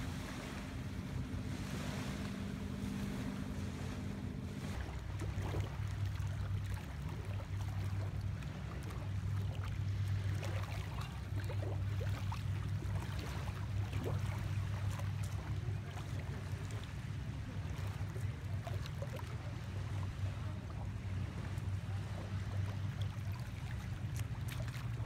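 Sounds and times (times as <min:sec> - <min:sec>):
motorboat engine drone: 0:00.0 - 0:25.0
small waves lapping: 0:00.0 - 0:25.0.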